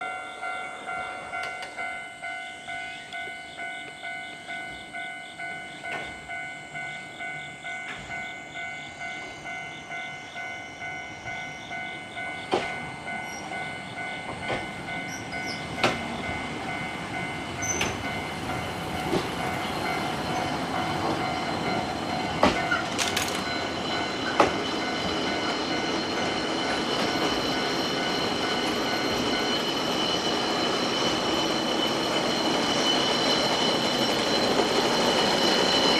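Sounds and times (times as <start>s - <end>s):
level crossing warning bell ringing: 0.0s - 35.9s
funicular car rolling on track: 0.2s - 35.9s.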